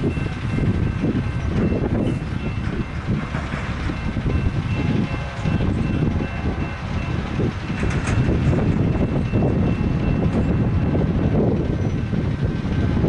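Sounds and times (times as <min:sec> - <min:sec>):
distant freight train rumble: 0:00.0 - 0:13.0
wind buffeting the microphone: 0:00.0 - 0:13.0.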